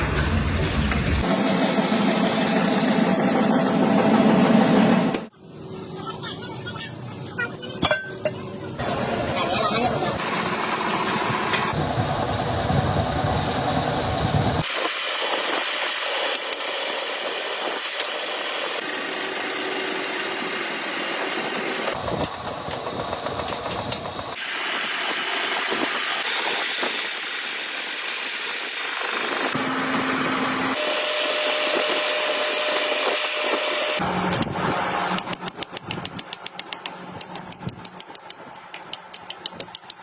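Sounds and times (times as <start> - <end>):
hissing and humming machinery: 0.0 - 40.0.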